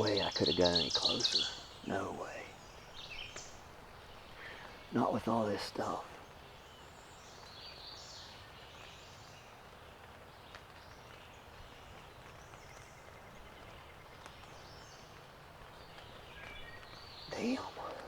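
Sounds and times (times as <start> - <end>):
distant songbirds calling: 0.0 - 18.0
steady faint hiss: 0.0 - 18.0.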